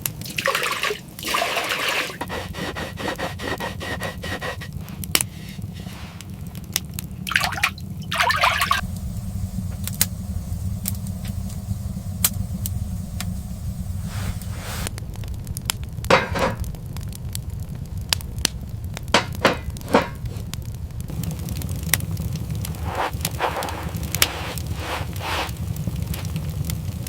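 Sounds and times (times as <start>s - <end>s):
steady low rumble: 2.3s - 27.0s
sharp crackles and clicks: 4.5s - 27.0s.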